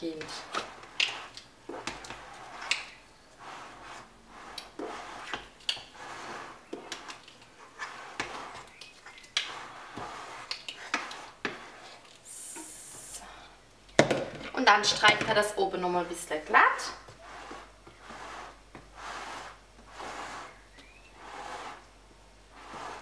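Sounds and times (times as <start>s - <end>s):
fork stirring thick batter: 0.0s - 12.2s, 16.5s - 23.0s.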